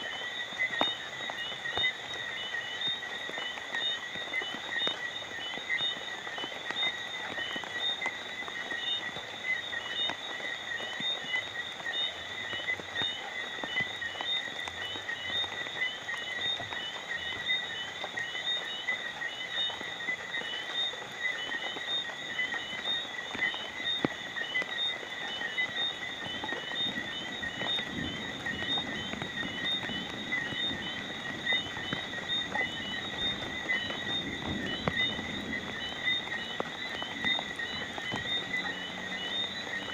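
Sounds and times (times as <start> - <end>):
night animals trilling and chirping: 0.0 - 39.9
rain drop ticks: 0.0 - 39.9
steady rain falling: 0.0 - 39.9.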